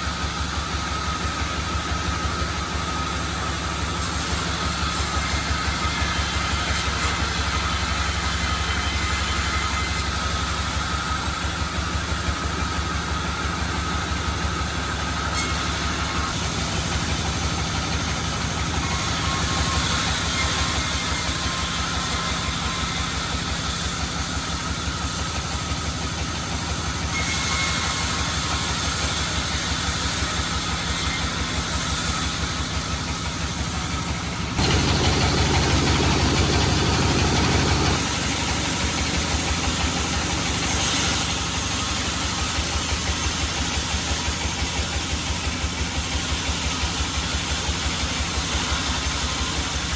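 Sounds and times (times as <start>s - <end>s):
sawmill engine running: 0.0s - 49.9s
band saw hissing through wood: 3.6s - 11.5s, 14.7s - 49.9s.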